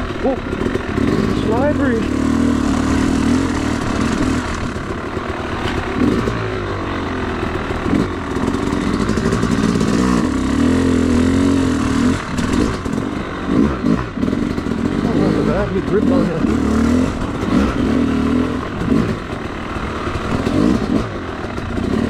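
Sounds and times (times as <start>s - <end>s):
two-stroke dirt bike engine revving: 0.0s - 22.0s.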